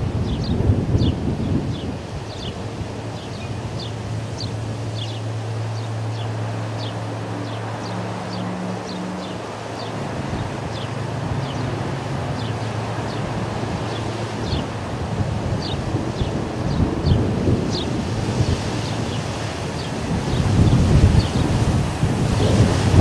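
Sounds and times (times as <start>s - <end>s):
low steady hum: 0.0s - 23.0s
wind on microphone: 0.0s - 23.0s
ospreys chirping calls: 0.2s - 23.0s.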